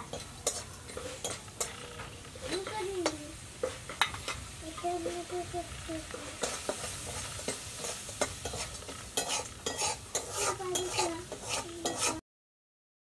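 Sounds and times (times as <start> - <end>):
utensil scraping metal pan: 0.0 - 5.2, 6.1 - 12.2
light sizzle: 0.0 - 12.2.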